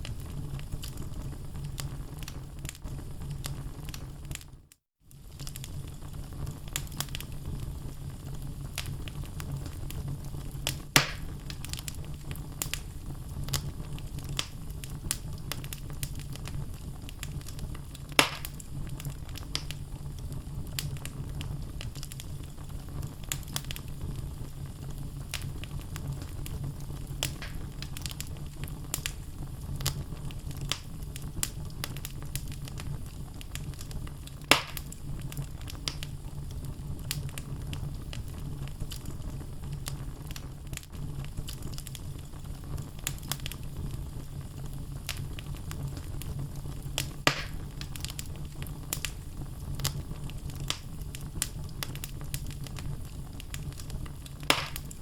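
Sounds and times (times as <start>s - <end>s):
loud fire pops: 0.0s - 55.0s
low fire rumble: 0.0s - 55.0s
wood logs crackling in fireplace: 0.0s - 55.0s.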